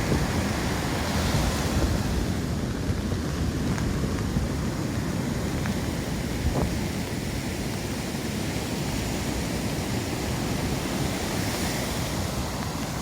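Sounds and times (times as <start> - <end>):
sea surf breaking on beach: 0.0 - 13.0
wind rumbling on microphone: 0.0 - 13.0.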